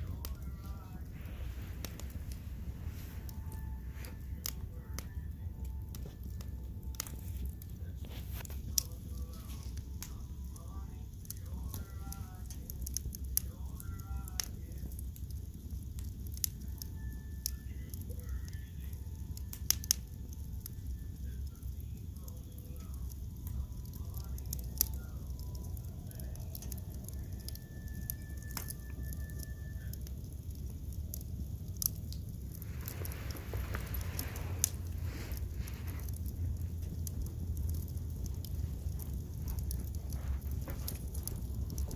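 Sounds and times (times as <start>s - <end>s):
burning wood popping: 0.0s - 41.9s
low steady rumble: 0.0s - 41.9s
wood fire crackling: 0.0s - 41.9s.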